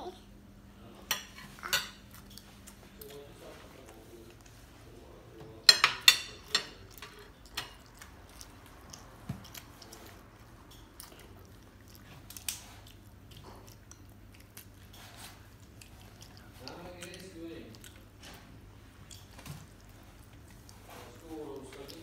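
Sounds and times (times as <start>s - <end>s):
chewing and mouth sounds: 1.5s - 4.9s, 6.4s - 22.0s.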